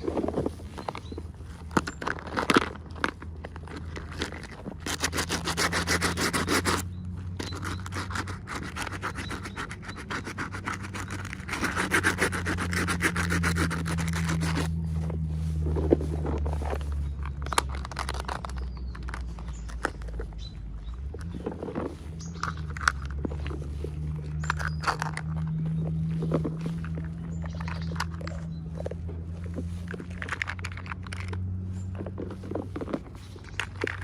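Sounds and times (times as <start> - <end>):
packaging rubbing and scraping: 0.0 - 34.0.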